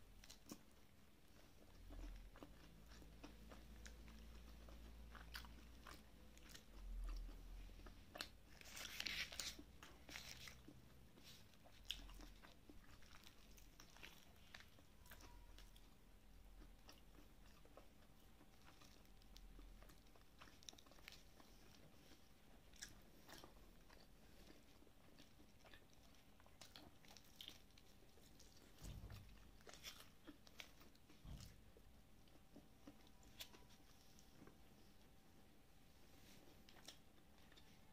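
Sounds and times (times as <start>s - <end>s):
person chewing crispy food: 0.0s - 35.5s, 36.2s - 37.9s.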